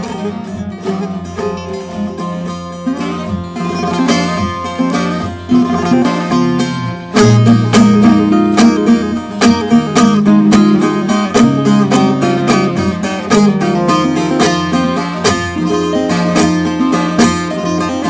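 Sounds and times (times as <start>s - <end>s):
plucked-string folk melody: 0.0s - 18.0s.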